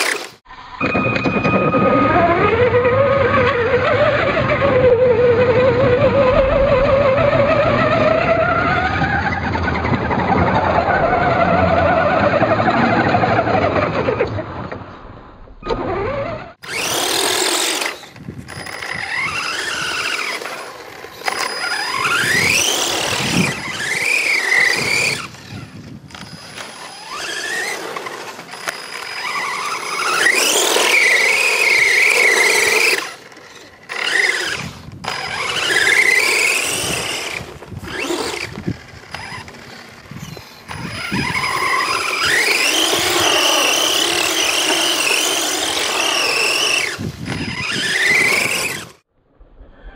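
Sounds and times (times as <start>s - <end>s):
electric motor whining: 0.0s - 14.2s, 15.6s - 49.0s.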